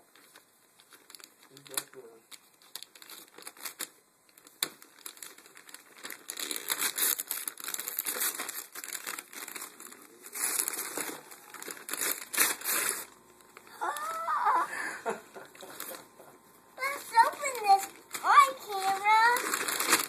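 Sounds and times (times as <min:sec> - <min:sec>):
wrapping paper tearing and crinkling: 0:00.0 - 0:14.6, 0:15.4 - 0:16.1, 0:16.8 - 0:20.0.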